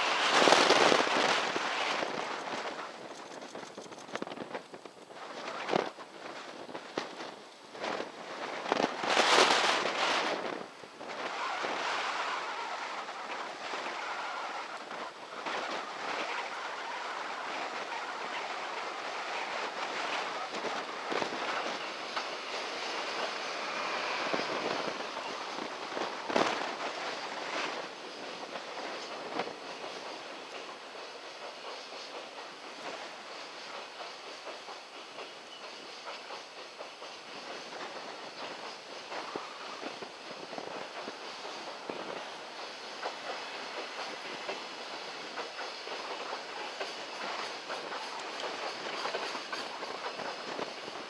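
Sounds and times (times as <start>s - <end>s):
freight train wheels rattling on rail: 0.0s - 51.0s
sharp train wheel clacks: 0.0s - 51.0s.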